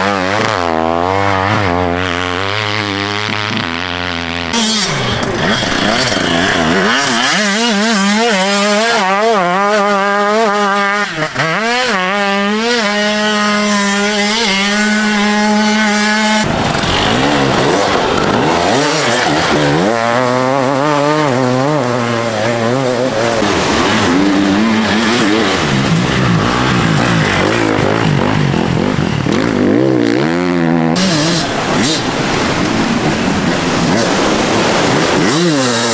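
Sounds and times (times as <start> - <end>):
dirt bike engines revving: 0.0 - 35.9
dirt bike wavering engine note: 0.0 - 35.9.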